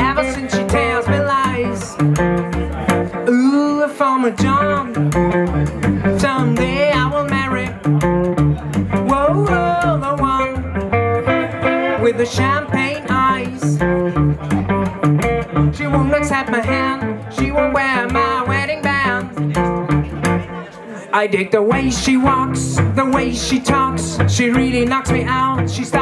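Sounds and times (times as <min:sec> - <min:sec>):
bass: 0:00.0 - 0:26.0
guitar lines: 0:00.0 - 0:26.0.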